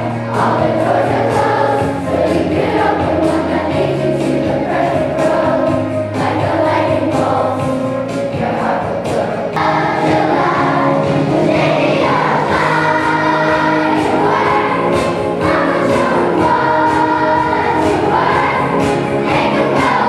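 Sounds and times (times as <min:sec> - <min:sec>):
children's choir singing: 0:00.0 - 0:20.0
musical accompaniment: 0:00.0 - 0:20.0.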